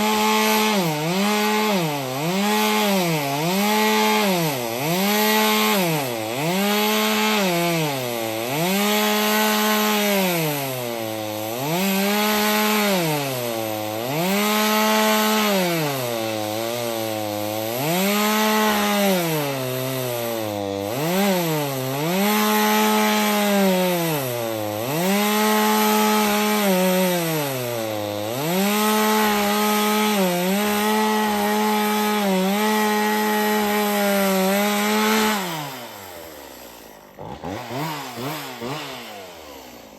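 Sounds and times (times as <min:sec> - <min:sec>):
chainsaw ripping through a log: 0:00.0 - 0:39.9.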